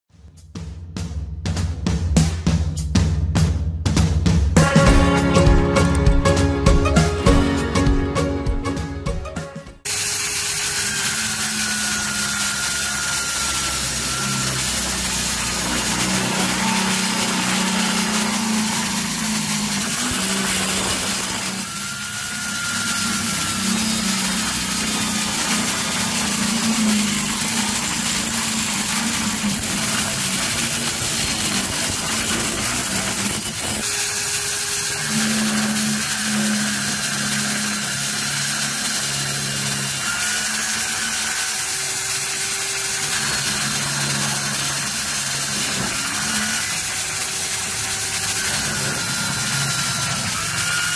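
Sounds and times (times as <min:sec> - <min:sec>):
power tool grinding: 0:04.6 - 0:08.9, 0:09.8 - 0:50.9.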